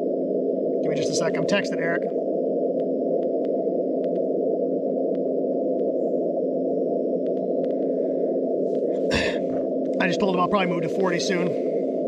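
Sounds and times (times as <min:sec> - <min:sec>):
faint steady tones: 0:00.0 - 0:12.0
radio receiver static hiss: 0:00.0 - 0:12.0.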